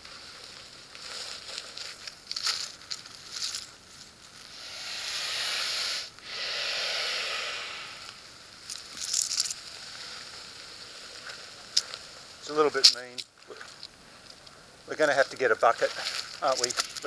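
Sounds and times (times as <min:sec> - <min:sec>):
rattlesnake hissing: 0:00.0 - 0:17.0.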